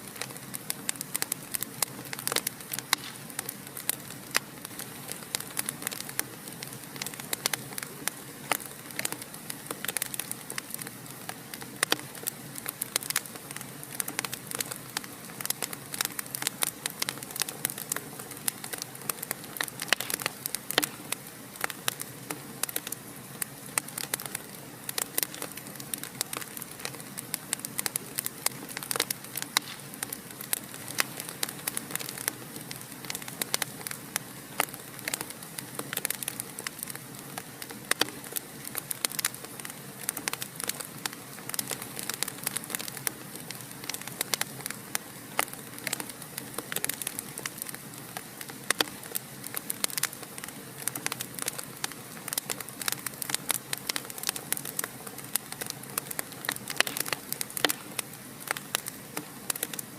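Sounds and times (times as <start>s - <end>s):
fire steady hiss: 0.0s - 59.9s
wood fire crackling and popping: 0.0s - 59.9s.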